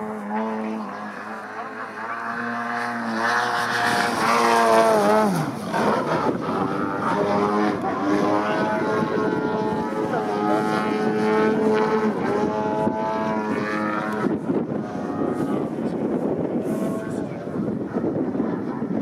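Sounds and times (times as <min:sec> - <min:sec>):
model plane engine and propeller: 0:00.0 - 0:19.0.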